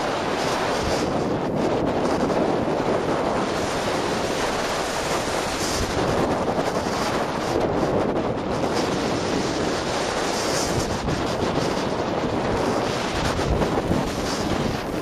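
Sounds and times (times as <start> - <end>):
skis carving on snow: 0.0 - 15.0
wind buffeting microphone: 0.0 - 15.0.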